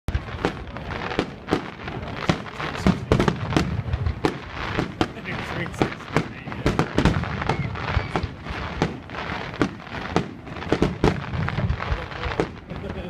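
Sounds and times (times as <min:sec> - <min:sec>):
fireworks banging: 0:00.1 - 0:13.0.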